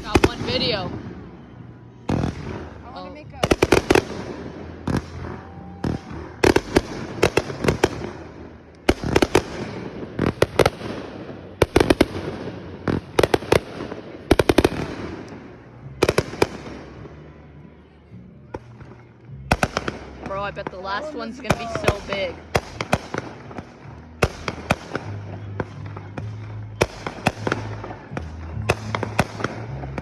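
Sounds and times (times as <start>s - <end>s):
fireworks bangs: 0.0s - 17.4s, 18.5s - 30.0s.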